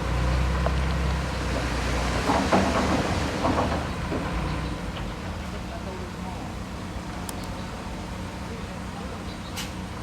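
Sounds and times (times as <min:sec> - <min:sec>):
diesel machinery engine hum: 0:00.0 - 0:10.0.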